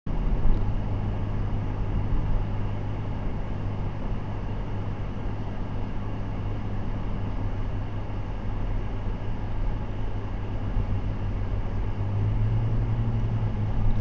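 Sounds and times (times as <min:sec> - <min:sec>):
car engine and road rumble: 0:00.1 - 0:14.0.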